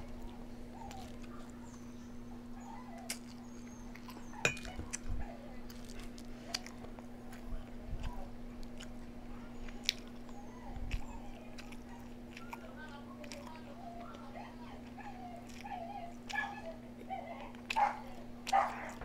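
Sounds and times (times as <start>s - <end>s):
chewing and biting food: 0.0s - 19.0s
steady low hum: 0.0s - 19.0s.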